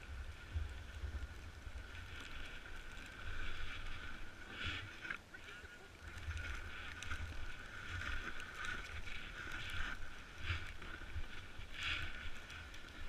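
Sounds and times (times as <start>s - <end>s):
snowboard scraping snow: 0.0s - 13.0s.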